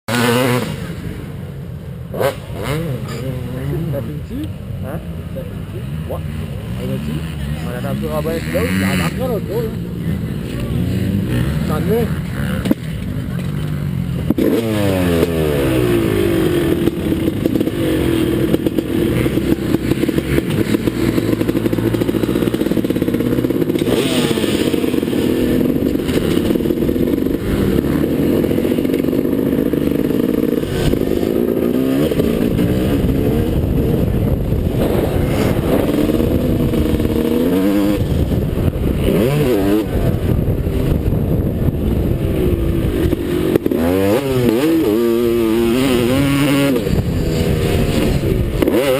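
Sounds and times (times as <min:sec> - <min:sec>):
motocross engine revving: 0:00.1 - 0:01.4, 0:02.0 - 0:48.9.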